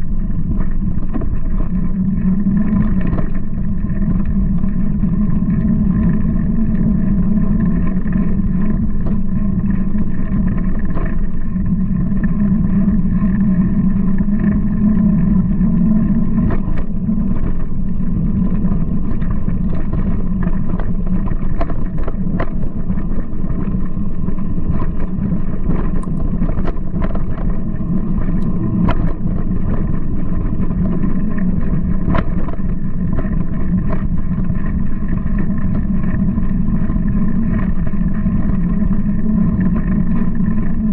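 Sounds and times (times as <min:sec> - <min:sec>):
tyres rumbling on dirt trail: 0:00.0 - 0:40.9
wind on microphone: 0:00.0 - 0:40.9.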